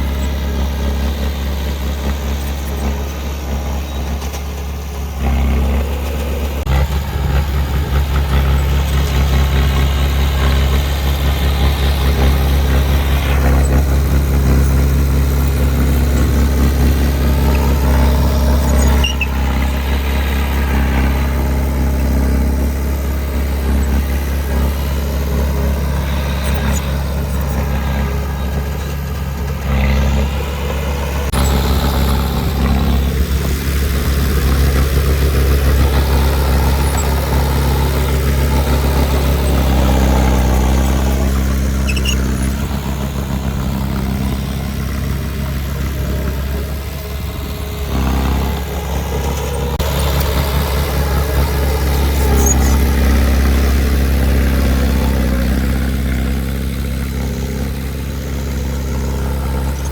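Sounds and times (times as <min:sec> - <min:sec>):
diesel engine humming: 0:00.0 - 0:59.9
high machine whines: 0:00.0 - 0:59.9.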